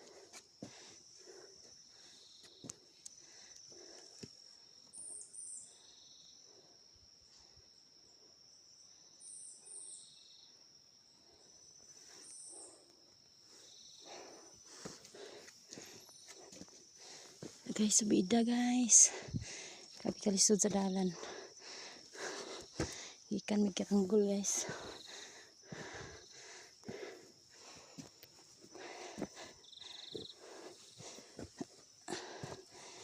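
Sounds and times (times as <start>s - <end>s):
faint insect drone: 0.0s - 33.0s.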